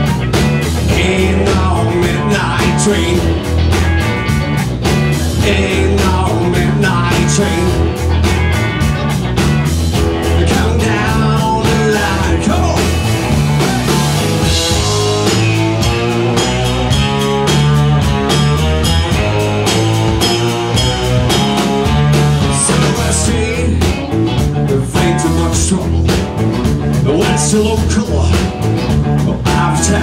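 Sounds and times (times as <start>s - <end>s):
blues rock band playing: 0.0s - 30.0s.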